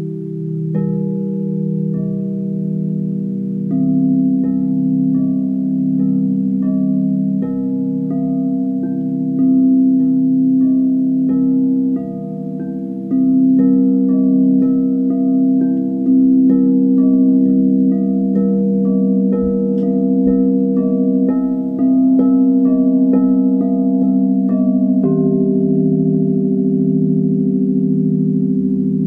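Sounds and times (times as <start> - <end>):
singing bowls struck: 3.7 - 29.0.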